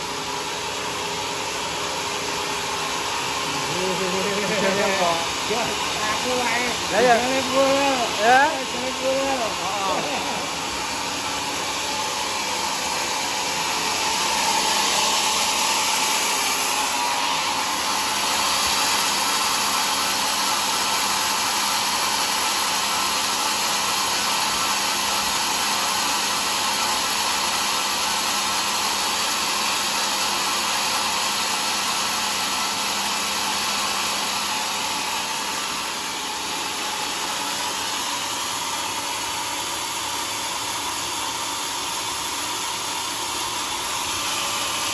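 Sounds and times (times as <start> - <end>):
sawmill sawing through a log: 0.0 - 44.9.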